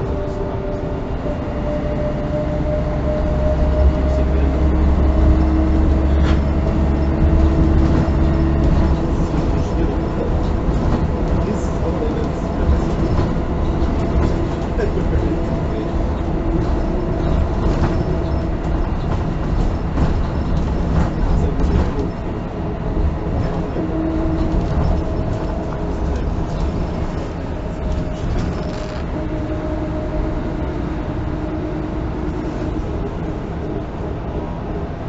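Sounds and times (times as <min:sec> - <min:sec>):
bus engine rumbling: 0:00.0 - 0:35.0
drivetrain whine: 0:00.0 - 0:35.0.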